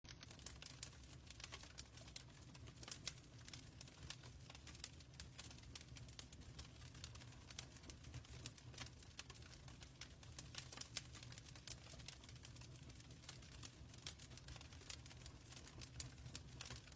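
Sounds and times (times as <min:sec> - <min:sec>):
wood fire crackling: 0:00.1 - 0:16.9.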